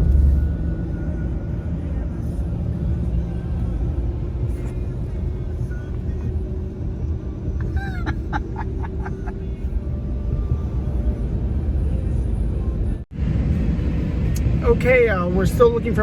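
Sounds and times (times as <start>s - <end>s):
car rumble on road: 0.0s - 15.6s.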